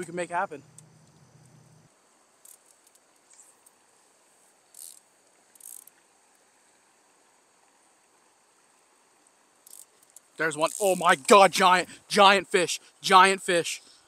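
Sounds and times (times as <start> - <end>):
faint steady high buzz: 0.0 - 14.0
insects chirping: 0.0 - 14.0.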